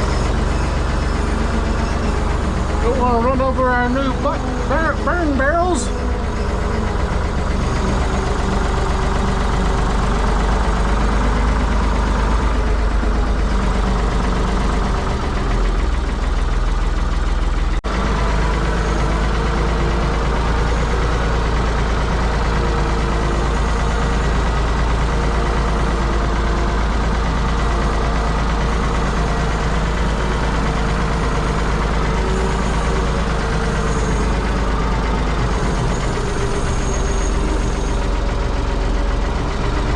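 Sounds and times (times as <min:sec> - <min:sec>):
backhoe loader engine running: 0:00.0 - 0:39.9.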